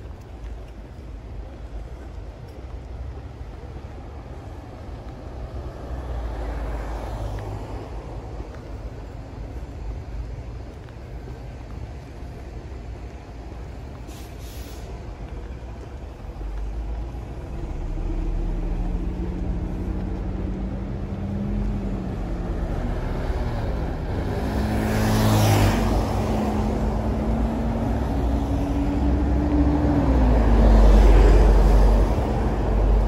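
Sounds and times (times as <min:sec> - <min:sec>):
bus engine: 0:00.0 - 0:33.0
road traffic engines running: 0:00.0 - 0:33.0.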